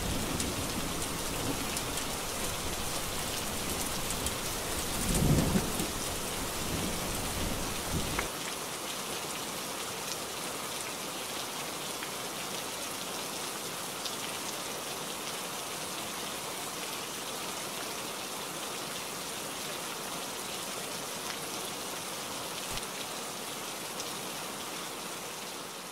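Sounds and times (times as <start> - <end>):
heavy rain on leaves: 0.0 - 25.9.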